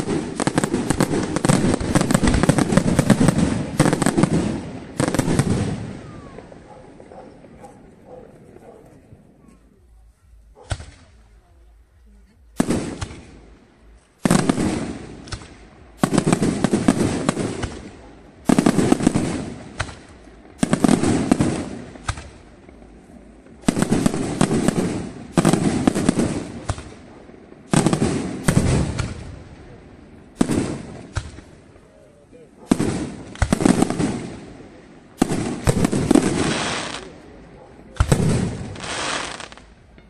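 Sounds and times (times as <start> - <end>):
fireworks bangs: 0.0 - 40.0
fireworks crackling: 0.0 - 40.0.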